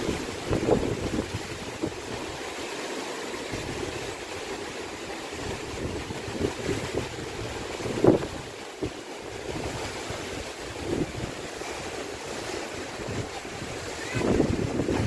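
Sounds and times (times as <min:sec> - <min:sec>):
wind buffeting microphone: 0:00.0 - 0:02.4, 0:05.3 - 0:15.0
sea surf: 0:00.0 - 0:15.0.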